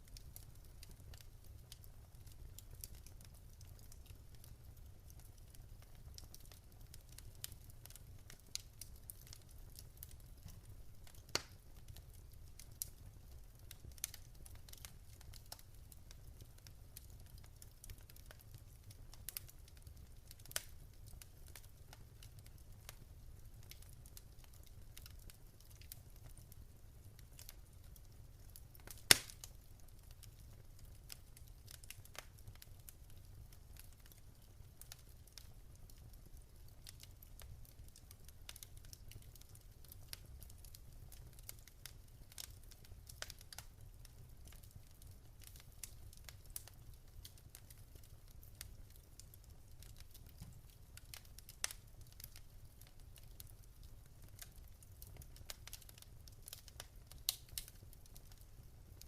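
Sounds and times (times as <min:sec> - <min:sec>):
wood fire crackling: 0:00.0 - 0:59.0
fire pops and snaps: 0:00.1 - 0:59.0.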